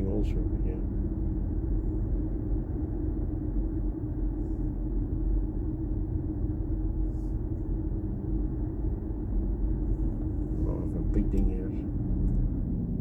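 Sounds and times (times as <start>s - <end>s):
road and tyre noise in car: 0.0s - 13.0s
steady low hum: 0.0s - 13.0s.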